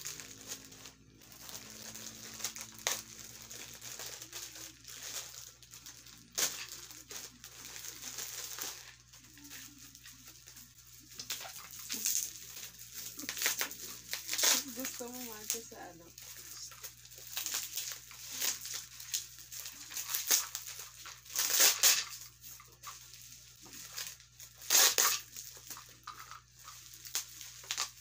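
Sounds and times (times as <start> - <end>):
plastic pouch crinkling: 0.0 - 28.0.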